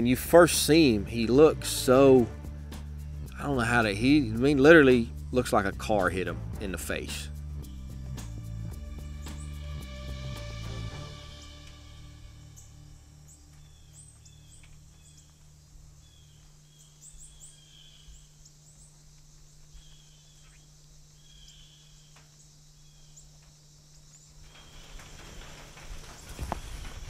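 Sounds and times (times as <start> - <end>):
steady low hum: 0.0 - 27.0
small birds chirping: 1.9 - 9.8, 12.4 - 27.0.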